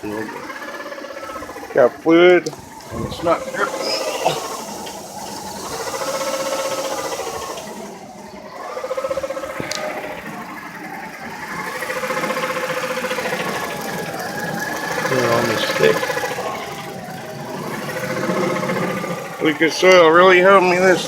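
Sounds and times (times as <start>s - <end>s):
car engine revving rough: 0.0s - 21.0s.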